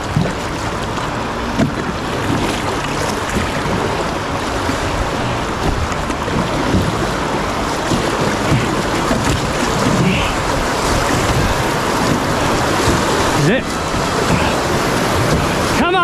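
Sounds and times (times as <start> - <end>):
river water rushing: 0.0 - 16.0
wind buffeting microphone: 0.0 - 16.0.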